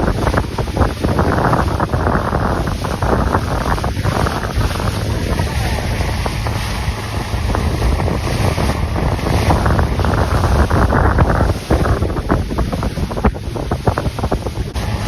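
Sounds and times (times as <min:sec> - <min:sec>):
rushing splashing water: 0:00.0 - 0:15.0
wind buffeting microphone: 0:00.0 - 0:15.0.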